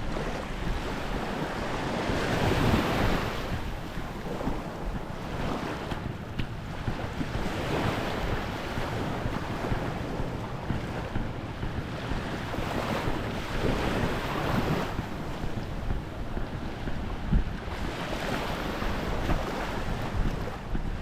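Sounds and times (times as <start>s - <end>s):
small waves washing onto shore: 0.0s - 21.0s
wind buffeting microphone: 0.0s - 21.0s.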